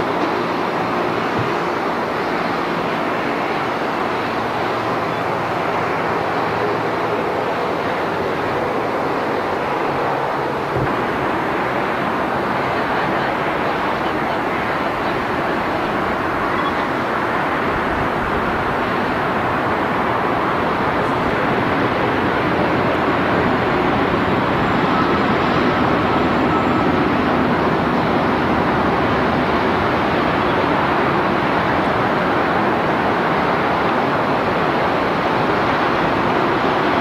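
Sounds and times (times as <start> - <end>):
locomotive engine and rail noise: 0.0 - 37.0.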